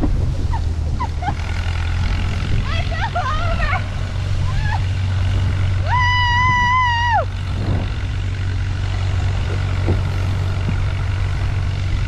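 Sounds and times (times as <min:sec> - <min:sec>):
tractor sled rumble: 0:00.0 - 0:12.0.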